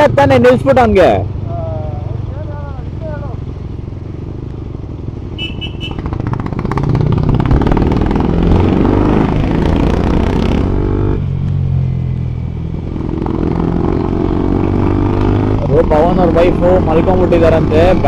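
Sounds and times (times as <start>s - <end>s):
motorcycle engine accelerating: 1.4s - 18.0s.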